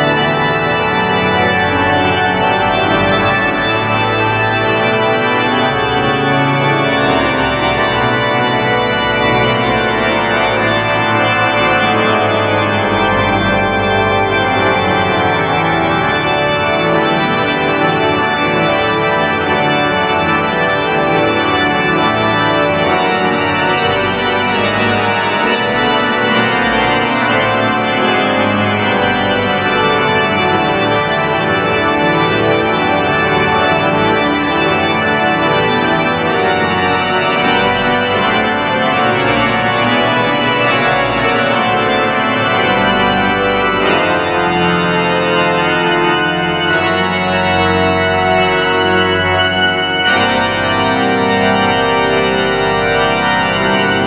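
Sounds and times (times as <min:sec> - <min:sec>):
deep organ pedal bass: 0:00.0 - 0:54.0
pipe organ playing: 0:00.0 - 0:54.0.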